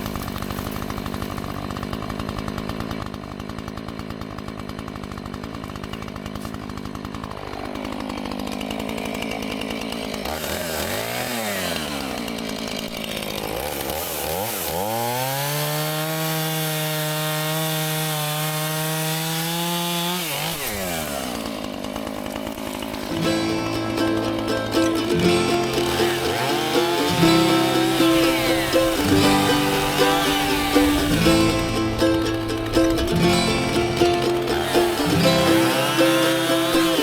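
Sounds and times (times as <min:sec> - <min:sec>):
chainsaw idling and revving: 0:00.0 - 0:37.0.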